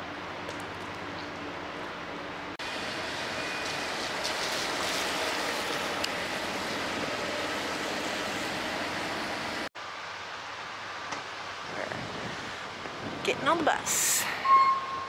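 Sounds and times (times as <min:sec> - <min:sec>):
steady outdoor rushing noise: 0:00.0 - 0:14.4.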